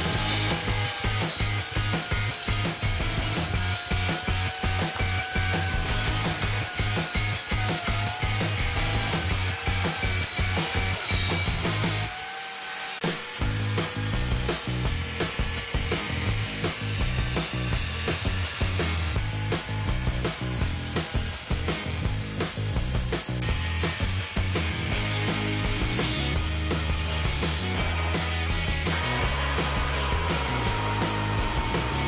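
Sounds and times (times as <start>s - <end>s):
background music: 0.0s - 12.1s, 13.1s - 32.0s
angle grinder cutting wood: 0.0s - 32.0s.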